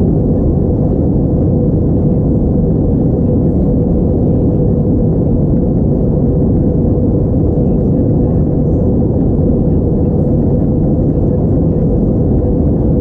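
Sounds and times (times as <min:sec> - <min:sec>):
airplane cabin engine rush: 0:00.0 - 0:13.0
constant hum: 0:00.0 - 0:13.0.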